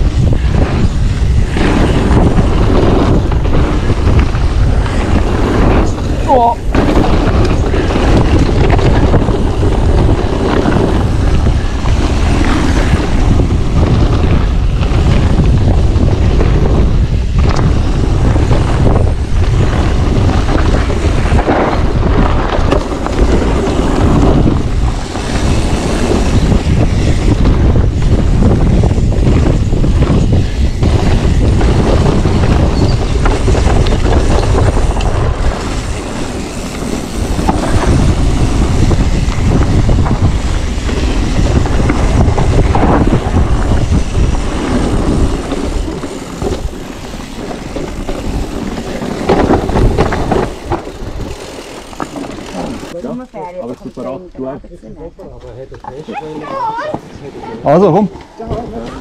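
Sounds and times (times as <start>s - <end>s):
bike rattling over rough trail: 0.0s - 59.0s
wind buffeting microphone: 0.0s - 59.0s.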